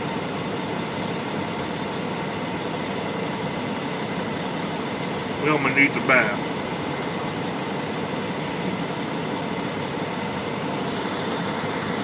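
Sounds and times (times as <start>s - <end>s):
truck cab mechanical hum: 0.0s - 12.0s.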